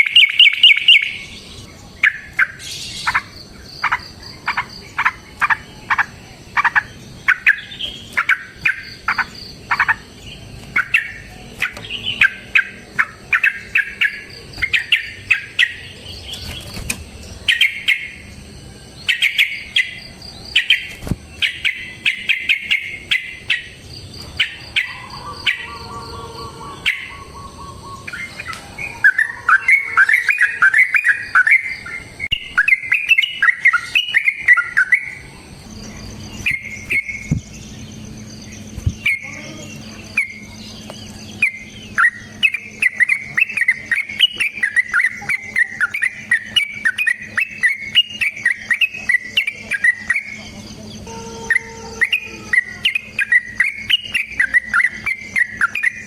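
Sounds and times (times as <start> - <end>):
bulbul singing: 0.0 - 56.0.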